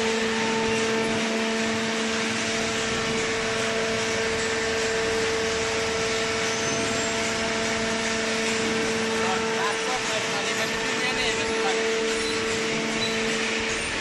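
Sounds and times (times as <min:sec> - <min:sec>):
baling machine humming: 0:00.0 - 0:14.0
conveyor rushing noise: 0:00.0 - 0:14.0.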